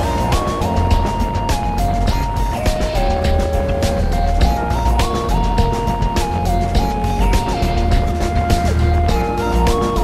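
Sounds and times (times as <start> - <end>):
melody of held notes: 0.0 - 10.0
steady beat and bass: 0.0 - 10.0.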